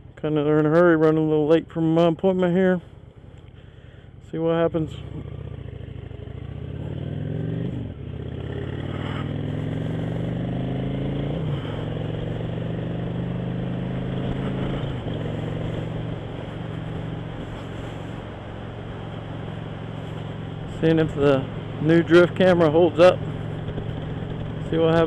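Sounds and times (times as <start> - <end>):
motorcycle engine accelerating: 4.6 - 25.0.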